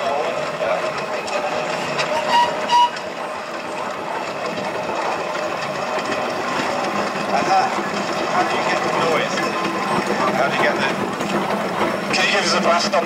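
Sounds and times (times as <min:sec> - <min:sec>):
steam roller engine clattering: 0:00.0 - 0:13.0.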